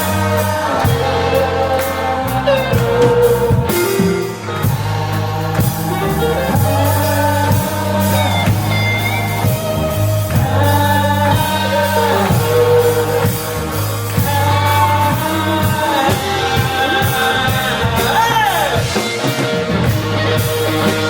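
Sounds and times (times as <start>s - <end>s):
bass guitar: 0.0s - 21.0s
drums: 0.0s - 21.0s
electric guitar: 0.0s - 21.0s.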